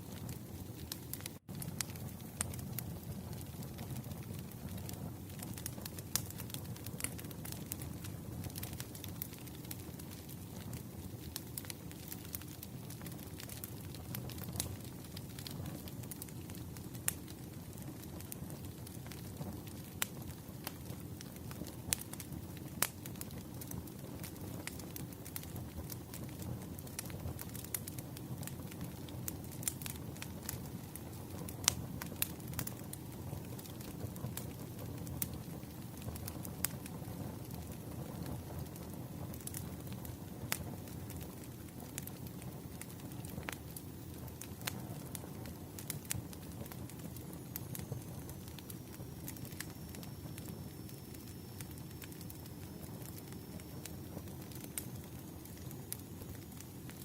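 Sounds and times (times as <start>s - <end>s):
low rumble of flames: 0.0s - 57.0s
wood fire crackling: 0.0s - 57.0s
sharp pops of burning logs: 0.1s - 57.0s.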